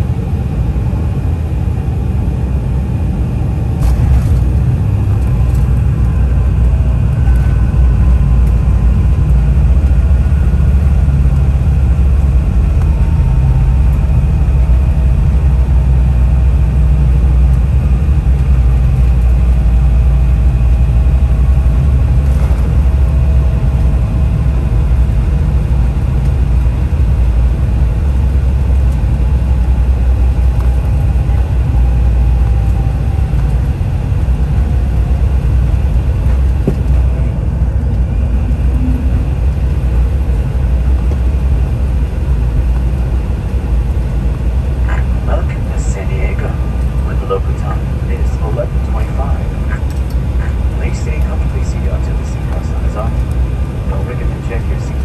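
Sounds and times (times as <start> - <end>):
faint engine whine: 0.0 - 55.0
jet cabin rumble while taxiing: 0.0 - 55.0.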